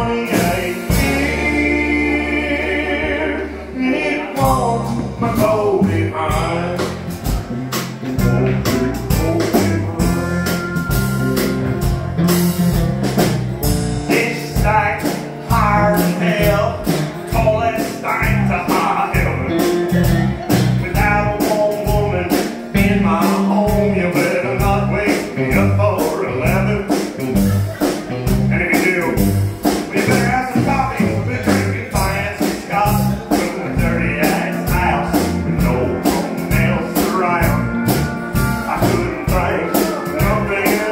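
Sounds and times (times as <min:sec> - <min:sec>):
country band playing: 0:00.0 - 0:40.9.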